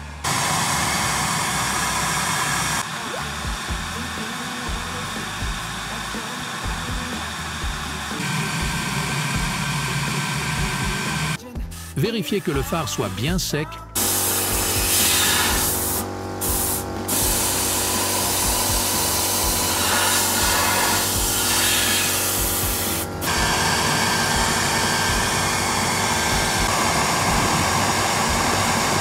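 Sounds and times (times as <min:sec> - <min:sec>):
hair dryer blowing air: 0:00.2 - 0:11.4, 0:14.0 - 0:29.0.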